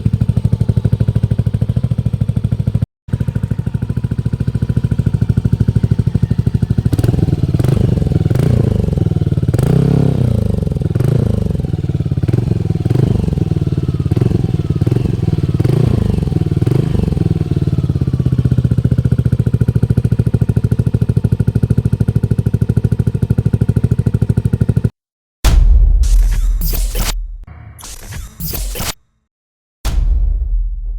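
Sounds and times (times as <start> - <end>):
scooter engine revving and idling: 0.0 - 24.9.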